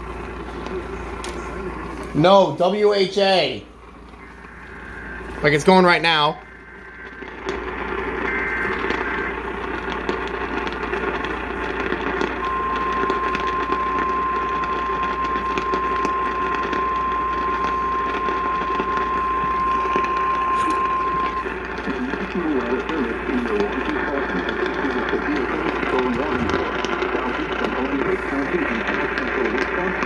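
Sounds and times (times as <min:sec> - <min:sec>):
radio hiss and crackle: 0:00.0 - 0:30.0
steady warning tone: 0:00.0 - 0:30.0
digital data tones: 0:04.1 - 0:30.0.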